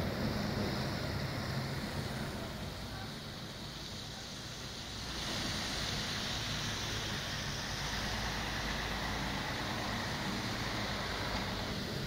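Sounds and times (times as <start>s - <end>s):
bus engine running: 0.0s - 12.0s
tyres hissing on wet road: 0.0s - 12.0s.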